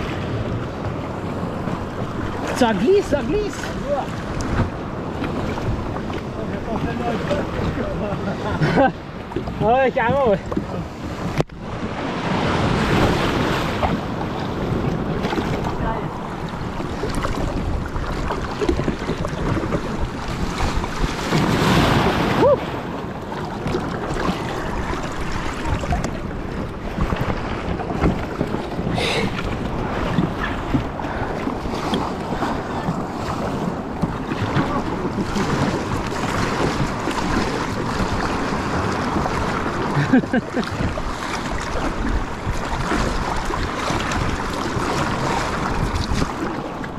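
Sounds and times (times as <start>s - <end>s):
water lapping against kayak: 0.0s - 46.9s
wind blowing on microphone: 0.0s - 46.9s.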